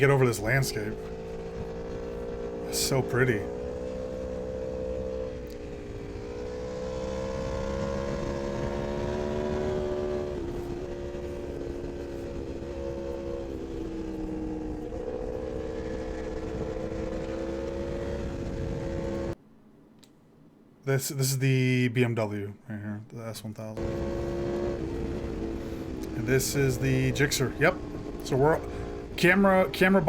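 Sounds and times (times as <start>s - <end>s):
motorcycle engine at high speed: 0.0s - 19.4s, 23.8s - 30.0s.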